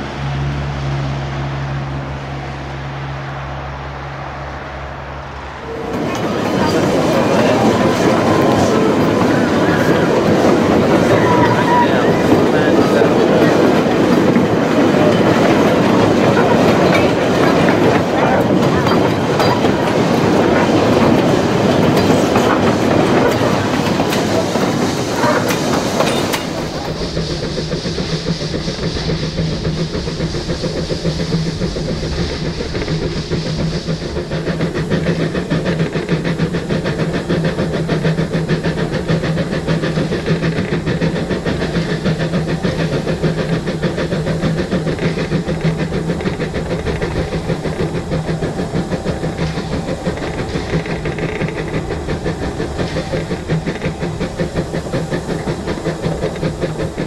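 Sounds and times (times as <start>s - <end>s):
train rumbling: 0.0s - 57.0s
steam locomotive rapid beats: 4.8s - 57.0s
steam hissing: 5.5s - 57.0s.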